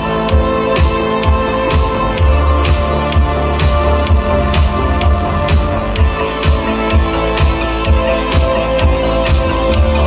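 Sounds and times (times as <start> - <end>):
electronic drum beat: 0.0 - 10.0
held synthesizer chords: 0.0 - 10.0
pulsing bass line: 0.0 - 10.0.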